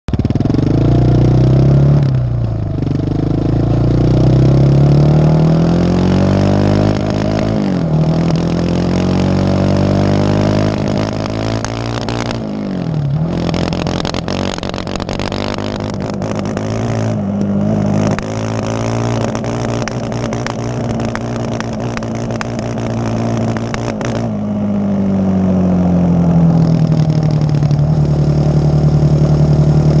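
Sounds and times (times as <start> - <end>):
engine revving and misfiring: 0.1 - 24.4, 26.3 - 30.0.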